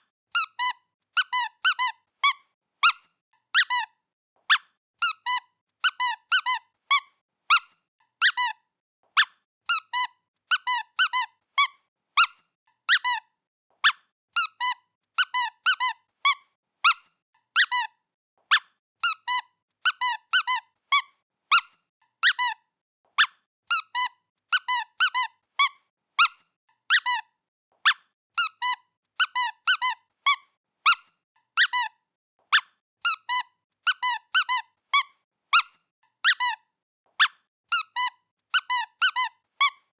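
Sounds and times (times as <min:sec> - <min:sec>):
squeaky pet toy: 0:00.3 - 0:39.9.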